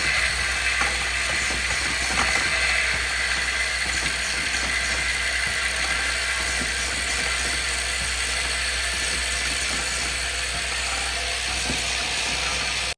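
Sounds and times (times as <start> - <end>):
machine air hiss: 0.0 - 12.9
mechanical clicking: 0.0 - 12.9.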